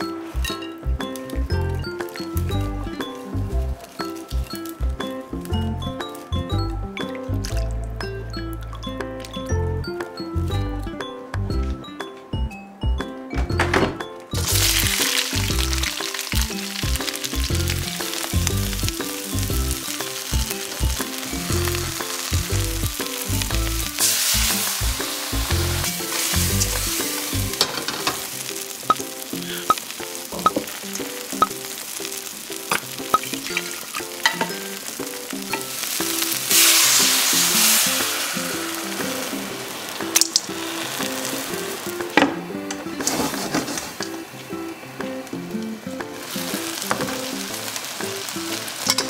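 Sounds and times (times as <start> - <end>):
prawns sizzling in hot oil: 0.0 - 7.8, 14.3 - 49.0.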